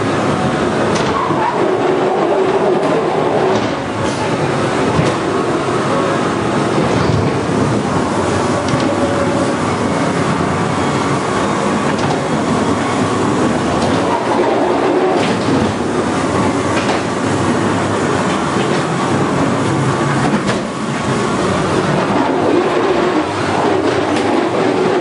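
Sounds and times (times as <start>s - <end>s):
ride car clattering on track: 0.8s - 5.4s, 6.0s - 9.9s, 11.6s - 25.0s.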